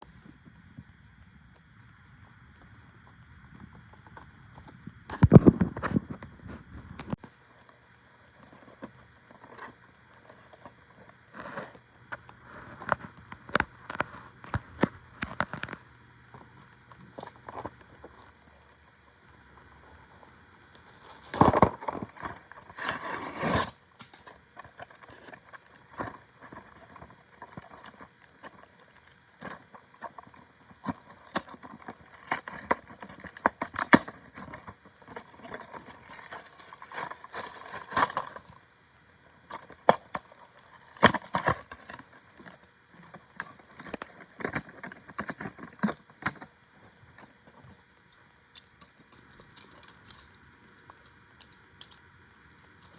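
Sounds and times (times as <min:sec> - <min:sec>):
packaging crinkling and rustling: 0:08.3 - 0:38.6, 0:39.4 - 0:52.9.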